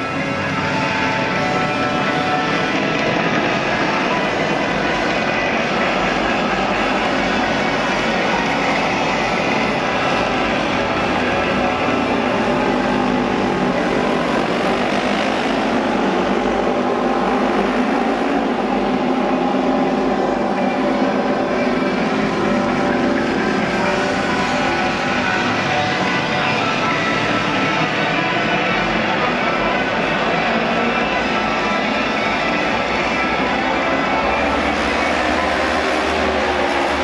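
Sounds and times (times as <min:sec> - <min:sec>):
racing motorcycle engines: 0:00.0 - 0:37.0.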